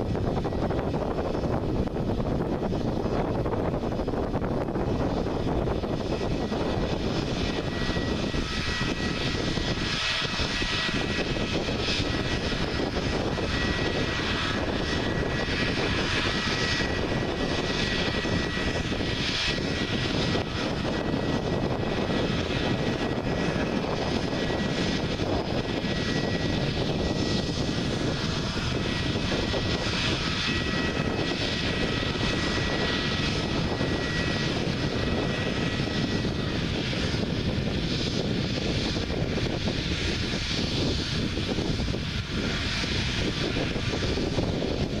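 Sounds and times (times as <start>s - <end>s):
high jet whine: 0.0s - 45.0s
jet engines at low taxi power: 0.0s - 45.0s.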